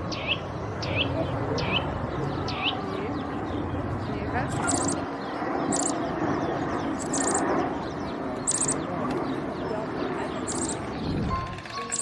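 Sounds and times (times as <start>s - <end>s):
birds chirping trills: 0.0s - 12.0s
dense background chatter: 0.0s - 12.0s.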